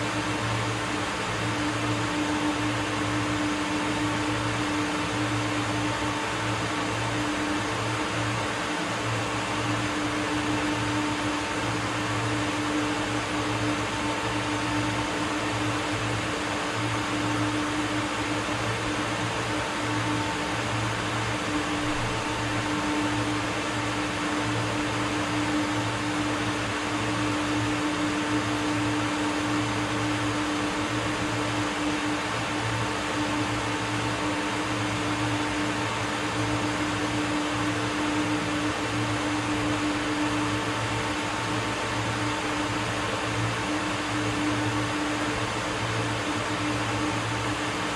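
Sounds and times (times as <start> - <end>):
machine hum with fan whir: 0.0 - 47.9.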